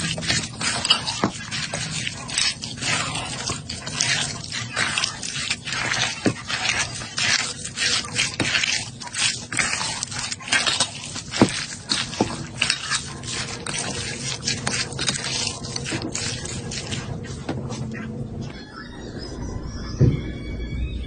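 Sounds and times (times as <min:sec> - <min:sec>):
wet chewing and smacks: 0:00.0 - 0:18.1.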